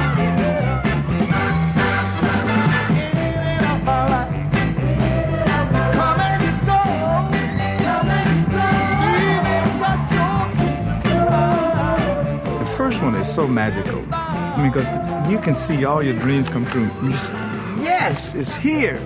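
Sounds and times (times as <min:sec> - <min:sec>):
person singing: 0:00.0 - 0:19.0
soul music with bass and drums: 0:00.0 - 0:19.0.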